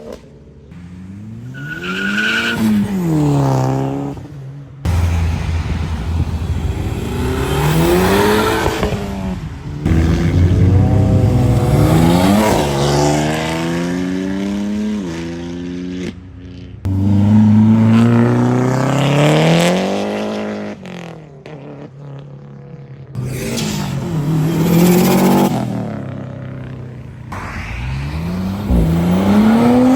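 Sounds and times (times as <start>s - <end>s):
car engines accelerating hard: 0.7s - 21.8s, 23.2s - 29.9s.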